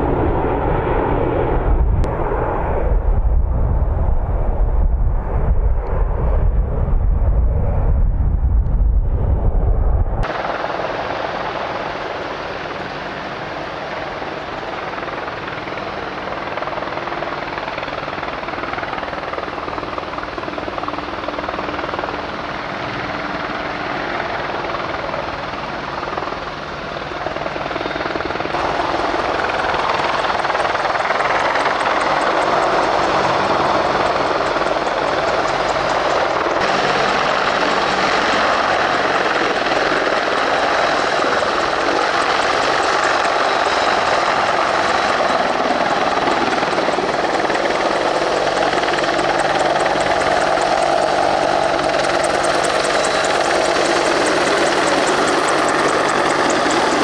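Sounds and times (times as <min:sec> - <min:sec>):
helicopter flying low: 0:00.0 - 0:57.0.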